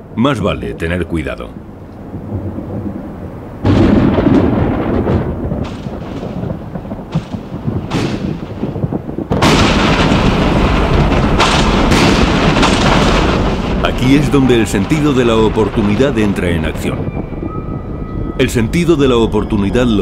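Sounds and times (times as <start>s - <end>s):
loud thunderclap: 0.0s - 20.0s
rolling thunder rumble: 0.0s - 20.0s.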